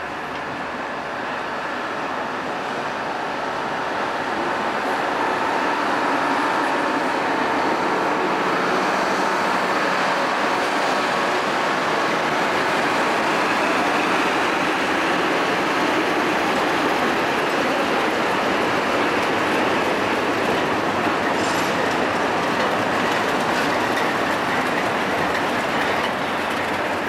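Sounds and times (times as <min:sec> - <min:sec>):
train rumbling by: 0:00.0 - 0:27.0.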